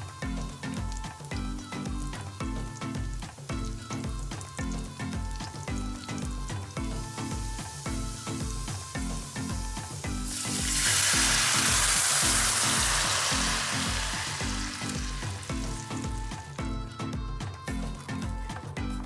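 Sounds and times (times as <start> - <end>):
food sizzling in hot pan: 0.0 - 16.6
background music with steady beat: 0.0 - 19.0.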